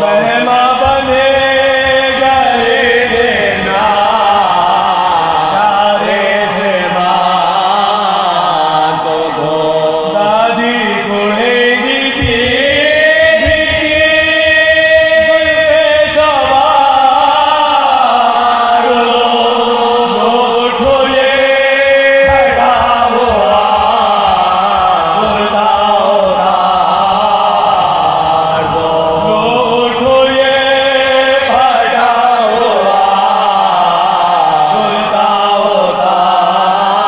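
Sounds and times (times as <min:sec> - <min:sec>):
man chanting a lament: 0:00.0 - 0:37.0.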